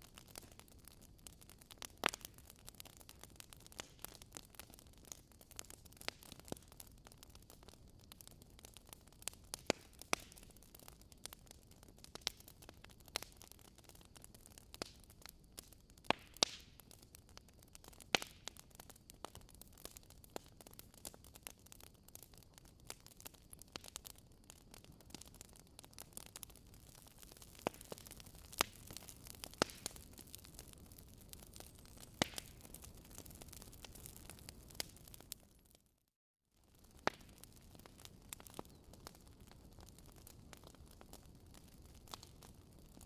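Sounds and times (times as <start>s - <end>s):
wood fire crackling: 0.0s - 35.8s, 36.6s - 43.0s.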